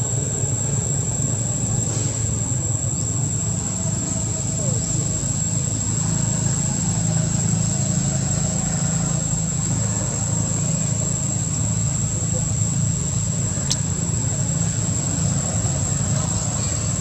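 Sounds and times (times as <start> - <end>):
high-pitched whine: 0.0 - 17.0
low engine drone: 0.0 - 17.0.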